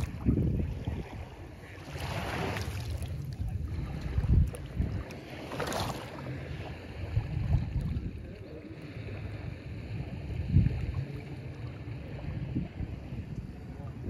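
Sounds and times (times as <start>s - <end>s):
water lapping at shoreline: 0.0s - 14.0s
wind buffeting microphone: 0.0s - 14.0s.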